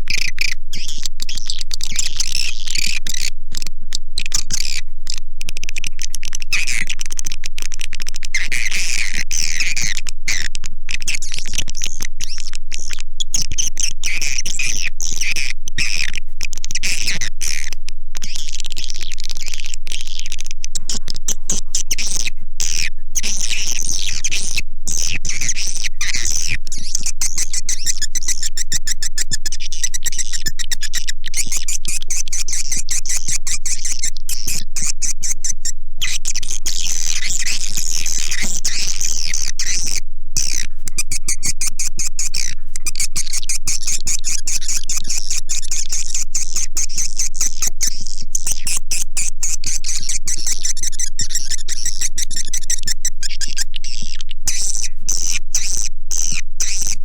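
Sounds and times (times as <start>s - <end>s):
swiftlet calls twittering: 0.0s - 7.0s, 8.4s - 57.0s.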